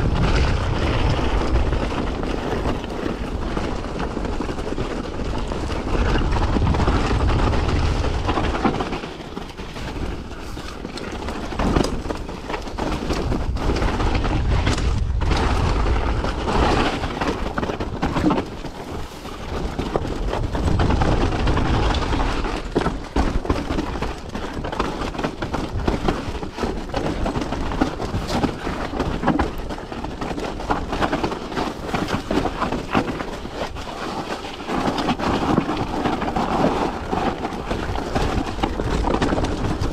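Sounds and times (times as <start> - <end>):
wind buffeting microphone: 0.0 - 34.0, 34.6 - 39.9
bike rattling with sharp knocks: 0.0 - 39.9
tyres crunching over loose stone: 0.0 - 39.9.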